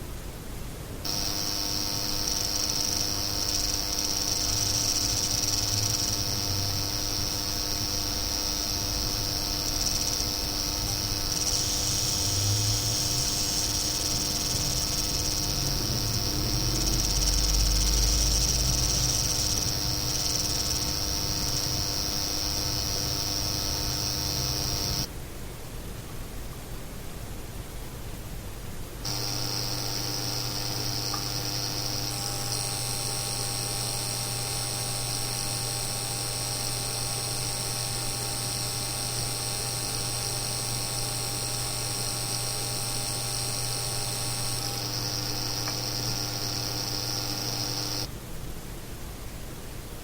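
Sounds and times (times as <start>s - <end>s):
power supply coil whine: 1.0s - 25.1s, 29.0s - 48.1s.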